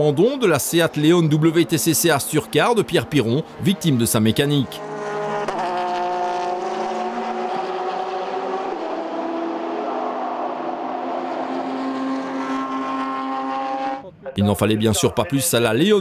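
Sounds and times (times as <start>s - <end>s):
race car engines running: 0.0s - 14.0s.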